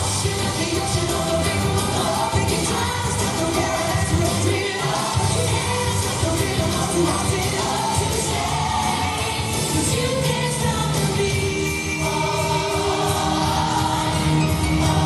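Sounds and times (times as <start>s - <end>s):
song with singing: 0.0s - 15.0s.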